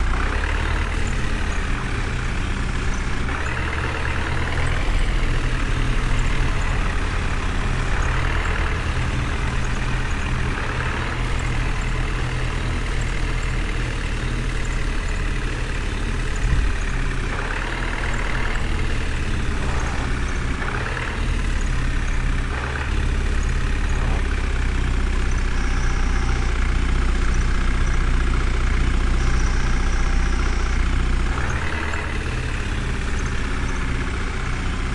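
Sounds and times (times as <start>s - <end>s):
heavy vehicle engine humming: 0.0s - 34.9s.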